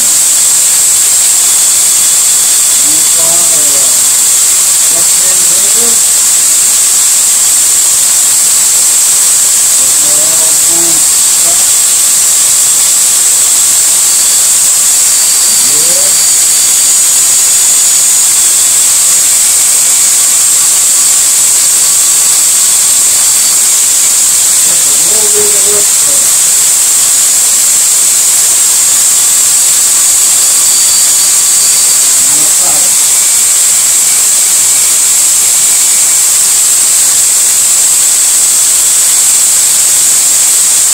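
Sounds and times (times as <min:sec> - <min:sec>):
electric drill running: 0:00.0 - 0:40.9.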